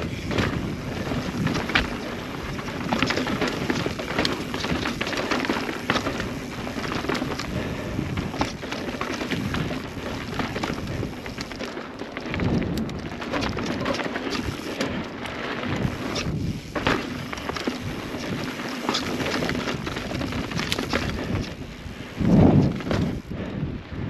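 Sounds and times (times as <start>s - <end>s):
bike rattling and knocking: 0.0s - 23.6s
bike tyres crunching over dirt: 0.0s - 24.0s.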